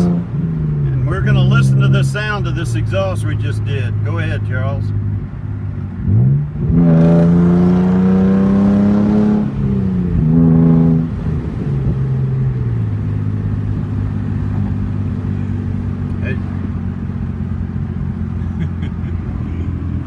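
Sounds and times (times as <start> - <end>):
car exhaust accelerating: 0.0 - 20.0.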